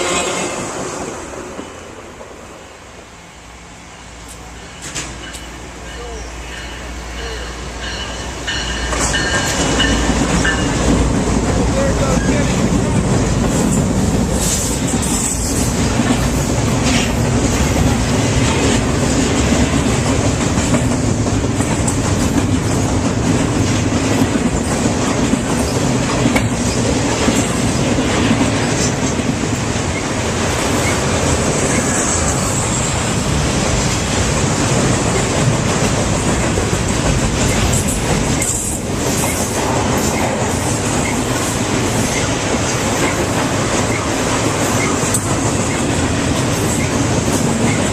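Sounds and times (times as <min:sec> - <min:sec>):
train rumbling past: 0:00.0 - 0:47.9
wheels clacking over rail joints: 0:04.6 - 0:32.6, 0:33.6 - 0:47.9.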